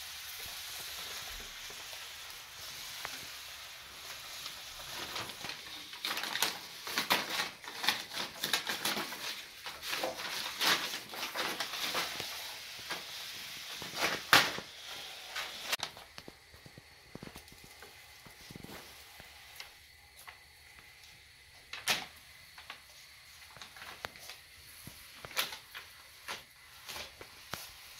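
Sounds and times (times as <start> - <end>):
paper crinkling on wooden floor: 0.3 - 20.4, 21.7 - 27.9.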